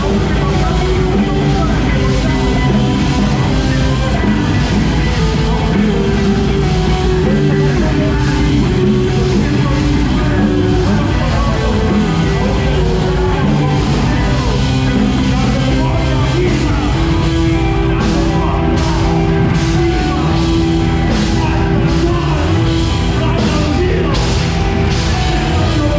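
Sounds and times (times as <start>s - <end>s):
loud rock music: 0.0s - 25.9s
person singing: 0.0s - 25.9s.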